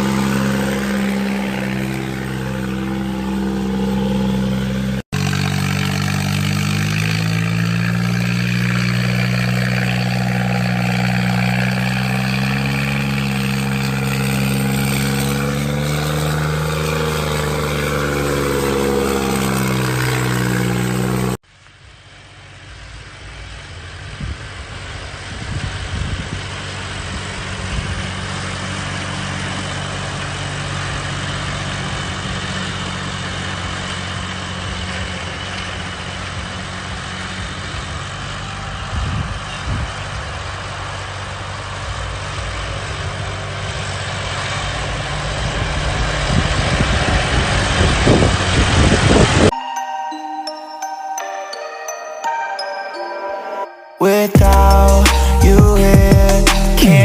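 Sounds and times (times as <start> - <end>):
tractor diesel engine running hard: 0.0 - 21.4, 22.2 - 49.5
rough engine sound: 0.0 - 49.6, 54.3 - 57.0.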